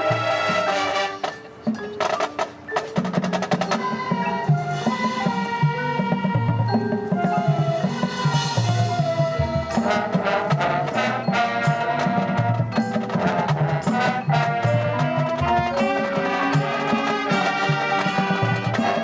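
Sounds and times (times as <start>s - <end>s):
drums striking steady beat: 0.0s - 19.0s
marching band playing: 0.0s - 19.0s.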